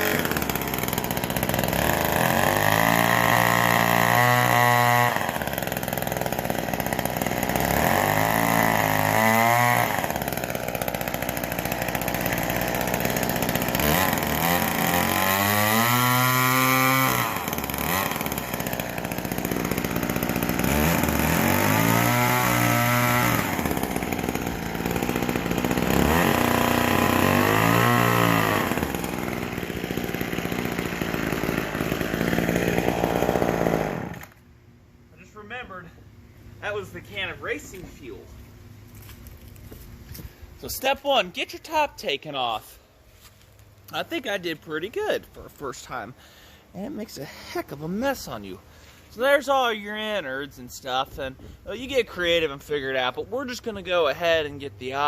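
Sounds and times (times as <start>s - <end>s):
chainsaw revving and idling: 0.0s - 34.5s, 36.6s - 55.0s.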